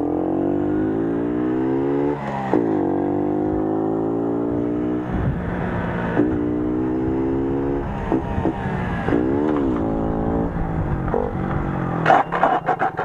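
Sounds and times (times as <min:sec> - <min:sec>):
moped engine revving: 0:00.0 - 0:13.0.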